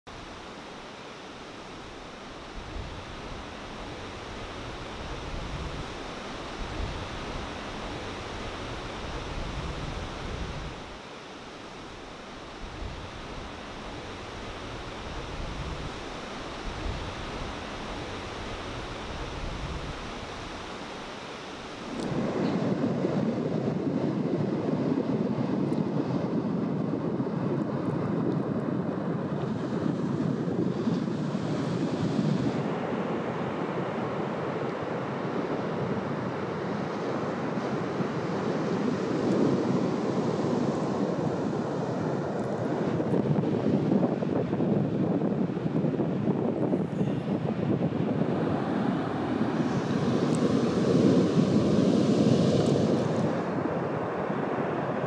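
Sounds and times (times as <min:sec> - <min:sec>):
wind gusts on microphone: 0:00.1 - 0:55.0.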